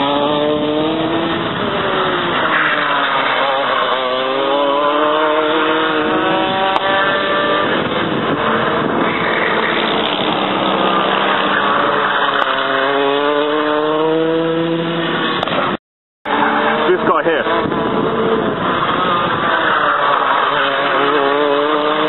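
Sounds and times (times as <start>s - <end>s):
go-kart engines racing: 0.0s - 22.0s.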